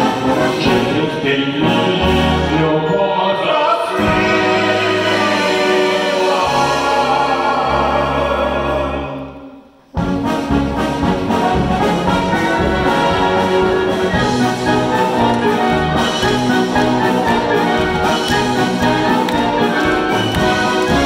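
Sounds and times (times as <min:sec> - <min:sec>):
wind band playing: 0:00.0 - 0:09.4, 0:10.0 - 0:21.0
brass playing rhythmic passage: 0:00.0 - 0:21.0.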